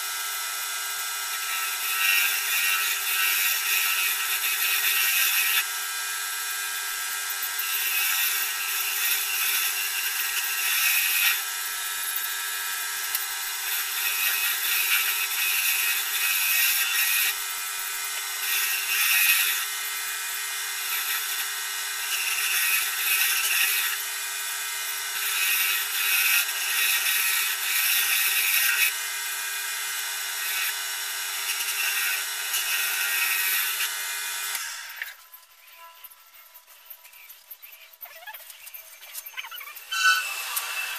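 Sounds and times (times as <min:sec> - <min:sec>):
wood lathe running: 0:00.0 - 0:40.9.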